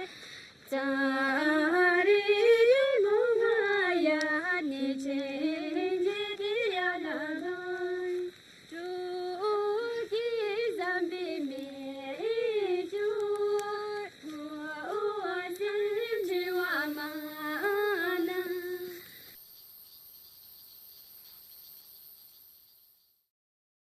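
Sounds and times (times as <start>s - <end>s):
woman singing unaccompanied: 0.0s - 19.2s
faint hiss: 0.0s - 23.2s.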